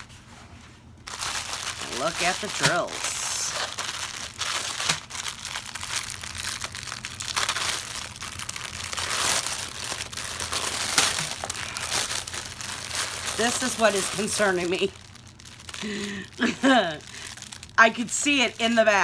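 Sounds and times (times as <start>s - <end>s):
small plastic bags crinkling: 1.0s - 19.0s.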